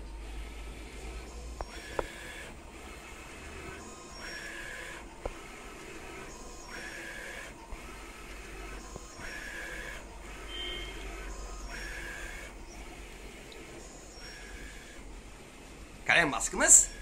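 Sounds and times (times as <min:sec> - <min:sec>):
machine hum: 0:00.0 - 0:16.0
printer carriage whining: 0:00.0 - 0:17.0.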